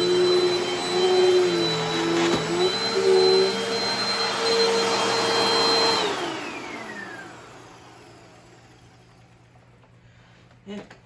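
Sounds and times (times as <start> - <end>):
vacuum cleaner whine: 0.0 - 10.2.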